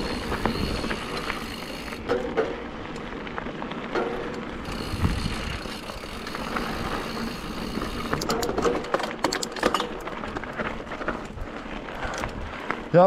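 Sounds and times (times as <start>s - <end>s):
bike clattering over bumps: 0.0s - 13.0s
bike tyres rushing over dirt: 0.0s - 13.0s
wind: 0.0s - 13.0s.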